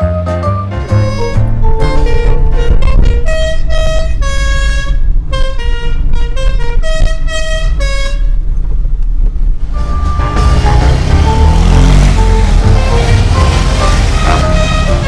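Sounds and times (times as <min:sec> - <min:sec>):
swing music with horn melody: 0:00.0 - 0:08.4, 0:09.8 - 0:15.0
low steady rumble: 0:00.9 - 0:15.0.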